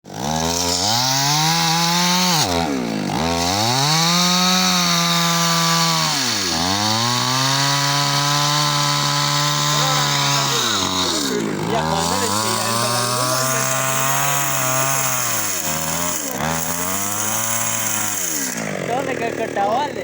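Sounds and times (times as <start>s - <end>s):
chainsaw cutting a tree: 0.0s - 20.0s.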